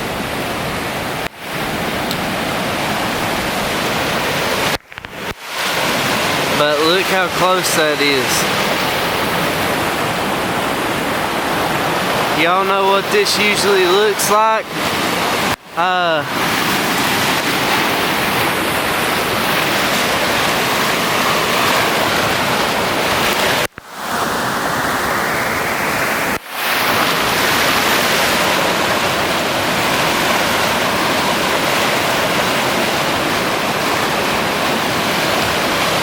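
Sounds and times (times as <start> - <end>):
rushing creek water: 0.0 - 36.0.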